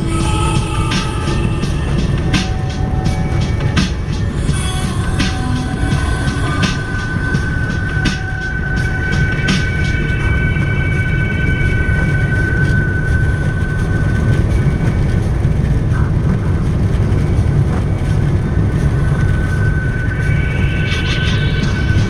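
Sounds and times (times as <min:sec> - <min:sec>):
car engine and tyres rumbling: 0:00.0 - 0:22.0
steady high tone: 0:00.0 - 0:22.0.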